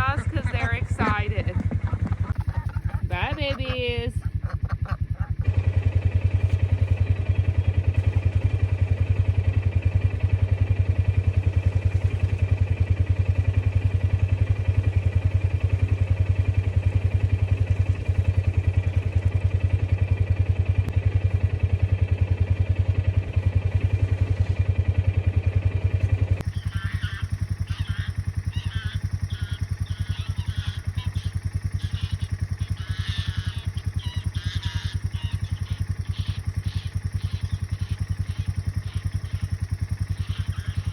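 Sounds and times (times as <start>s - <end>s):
utility vehicle engine running: 0.0s - 40.9s.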